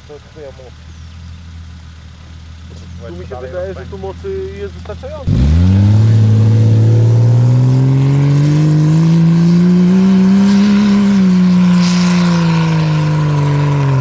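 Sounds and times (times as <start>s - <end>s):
car engine revving under load: 0.0s - 14.0s.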